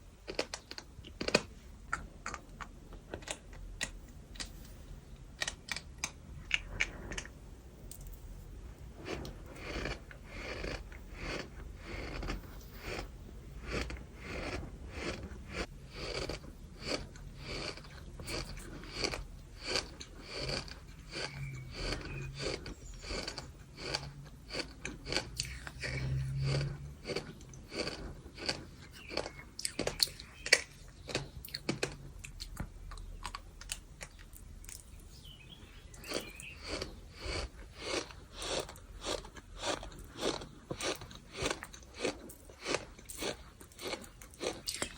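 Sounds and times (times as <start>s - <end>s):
gritty chewing crunches: 0.2s - 7.4s, 9.0s - 44.9s.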